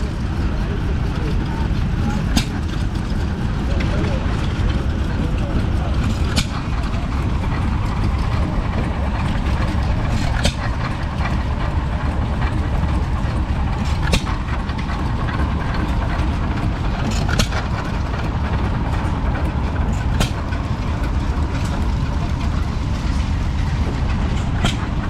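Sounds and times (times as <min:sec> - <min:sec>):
stationary engine rumbling: 0:00.0 - 0:25.0.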